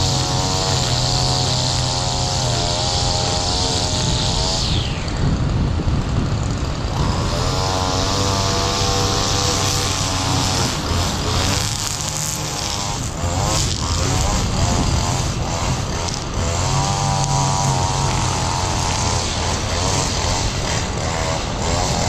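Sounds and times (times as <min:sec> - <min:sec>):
line trimmer cutting grass: 0:00.0 - 0:22.0.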